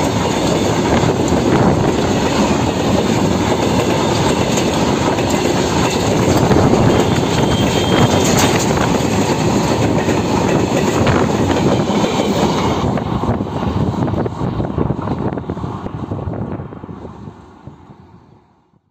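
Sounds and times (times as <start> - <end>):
train wheels clattering on track: 0.0 - 16.0.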